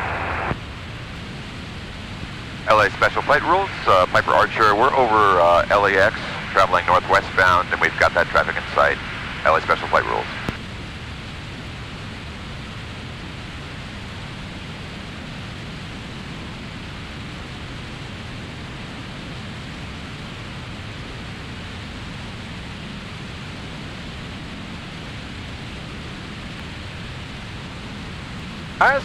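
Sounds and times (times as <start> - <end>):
light aircraft in cruise flight: 0.0 - 29.0.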